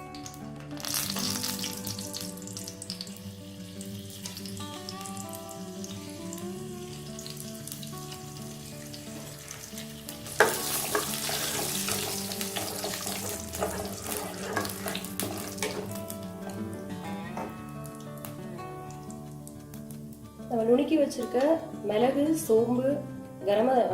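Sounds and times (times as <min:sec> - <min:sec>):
spices sizzling in hot oil: 0:00.0 - 0:16.8, 0:17.4 - 0:23.9
background music: 0:00.0 - 0:23.9.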